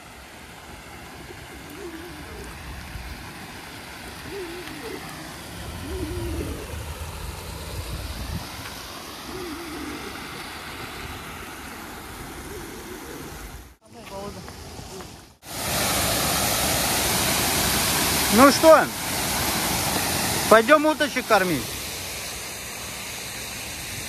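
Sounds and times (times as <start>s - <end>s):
water pouring over waterfall: 0.0s - 12.4s, 15.4s - 24.0s.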